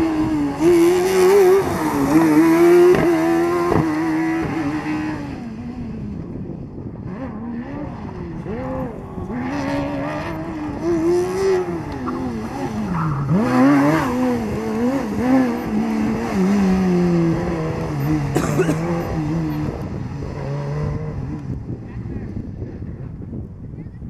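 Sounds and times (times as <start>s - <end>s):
race car engine revving: 0.0s - 6.1s, 7.0s - 22.4s.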